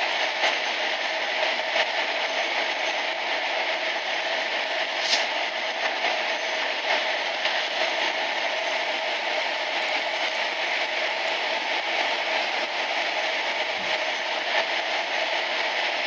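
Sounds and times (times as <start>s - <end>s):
train running through tunnel: 0.0s - 16.0s.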